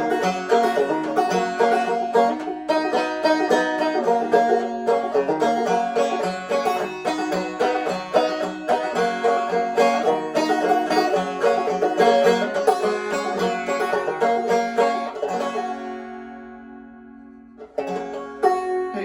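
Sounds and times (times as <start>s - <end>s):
fast picked banjo: 0.0s - 19.0s.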